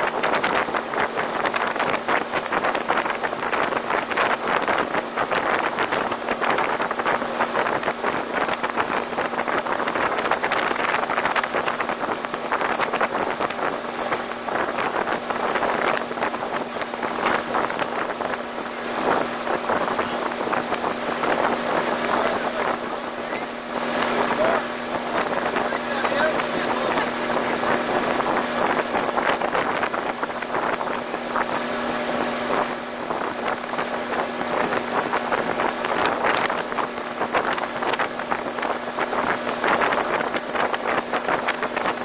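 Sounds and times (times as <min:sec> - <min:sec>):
boat engine hum: 0:00.0 - 0:42.0
water rushing off hull: 0:00.0 - 0:42.0
wind buffeting microphone: 0:00.0 - 0:42.0.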